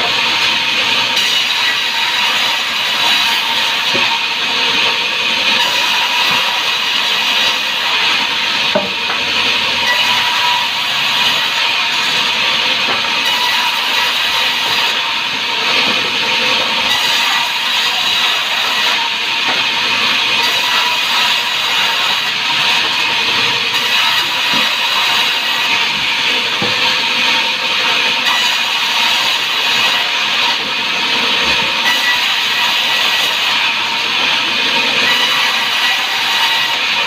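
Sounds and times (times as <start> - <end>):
sawmill saw cutting timber: 0.0 - 37.0.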